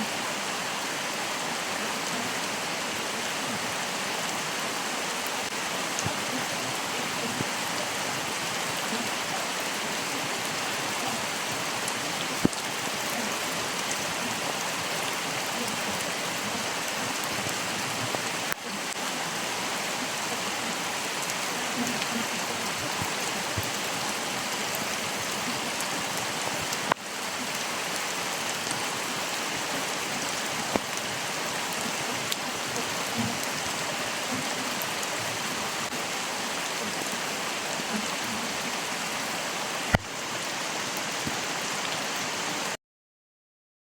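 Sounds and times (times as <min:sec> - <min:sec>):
stream water rushing: 0:00.0 - 0:42.8
water drips and splashes: 0:00.1 - 0:42.7.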